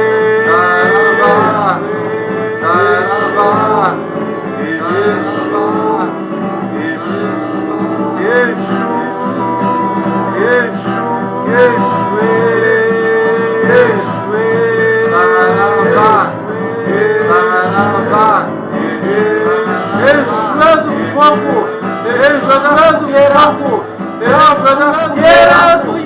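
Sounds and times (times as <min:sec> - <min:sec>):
plucked guitar: 0:00.0 - 0:26.0.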